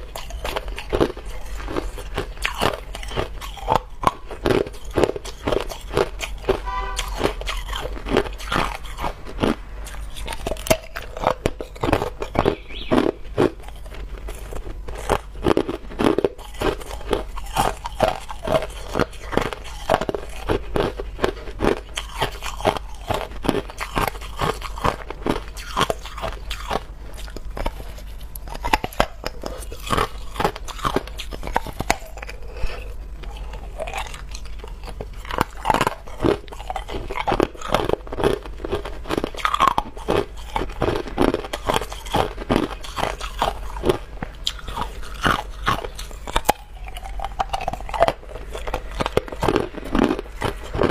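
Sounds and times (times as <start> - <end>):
ice crunched between teeth: 0.0 - 6.6, 7.2 - 50.9.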